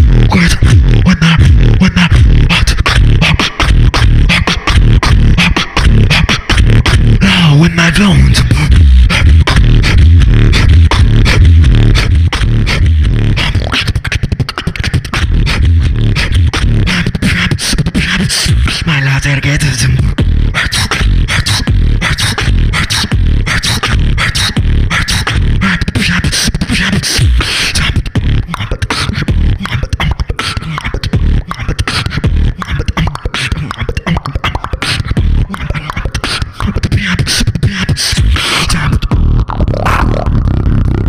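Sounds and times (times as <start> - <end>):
beatboxing into a microphone: 0.0 - 41.0.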